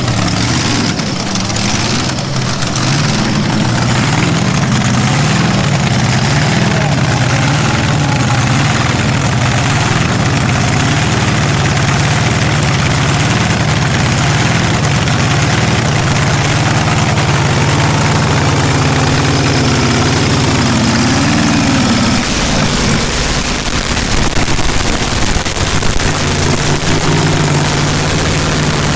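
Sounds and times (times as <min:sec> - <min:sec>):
loud car engine idling: 0:00.0 - 0:28.9.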